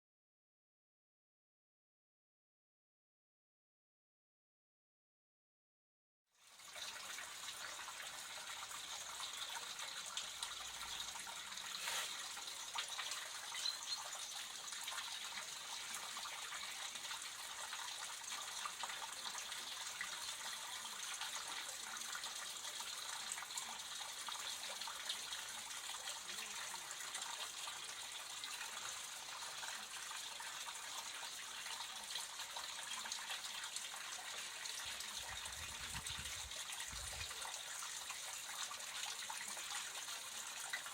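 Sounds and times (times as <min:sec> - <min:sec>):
water flowing in a stream: 0:06.4 - 0:40.9.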